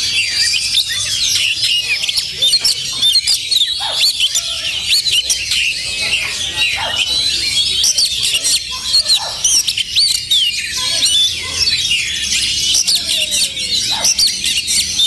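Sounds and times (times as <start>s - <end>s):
birds singing whistles and trills: 0.0s - 15.0s.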